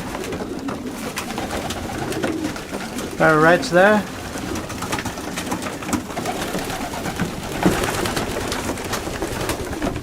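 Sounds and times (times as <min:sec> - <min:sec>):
pigeons cooing: 0:00.0 - 0:10.0
rustle of flock moving: 0:00.0 - 0:10.0.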